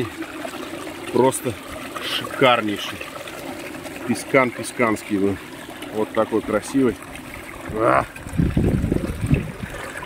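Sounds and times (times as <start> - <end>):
water gurgling and splashing: 0.0 - 10.0.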